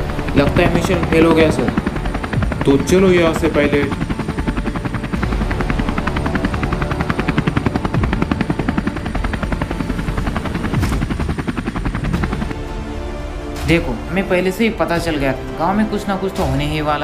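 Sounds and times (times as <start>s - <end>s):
helicopter engine running: 0.0s - 17.0s
helicopter rotor blades chopping: 0.0s - 17.0s.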